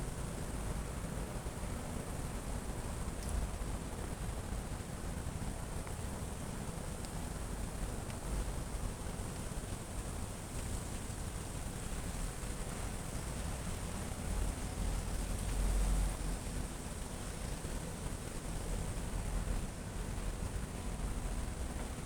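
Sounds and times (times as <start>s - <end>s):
light drizzling rain: 0.2s - 22.0s.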